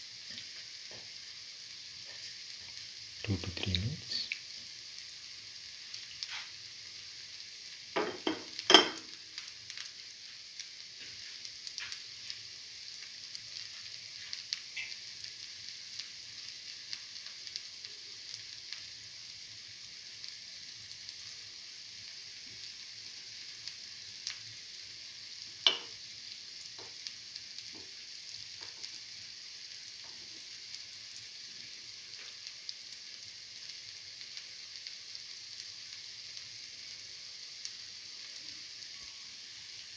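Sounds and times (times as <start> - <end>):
oil sizzling with fritters frying: 0.0 - 39.9.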